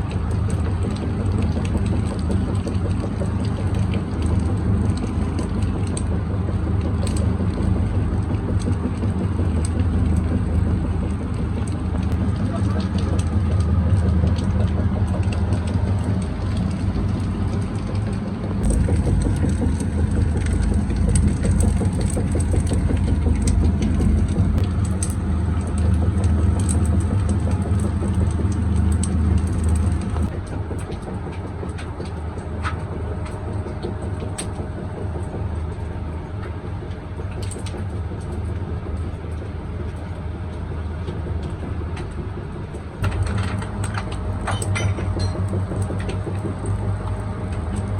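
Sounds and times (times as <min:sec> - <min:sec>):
machinery humming: 0:00.0 - 0:47.9.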